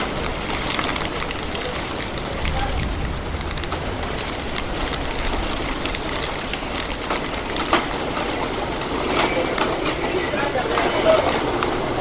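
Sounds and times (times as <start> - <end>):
heavy rain falling: 0.0 - 12.0
raindrops ticking on hard surface: 0.0 - 12.0.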